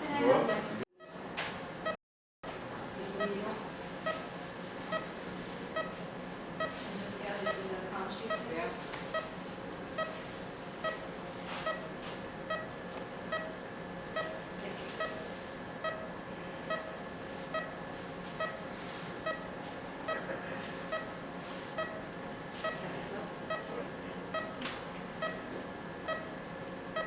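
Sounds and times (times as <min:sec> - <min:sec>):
steady equipment hum: 0:00.0 - 0:27.0
patient monitor beeping: 0:03.1 - 0:24.6, 0:25.2 - 0:27.0.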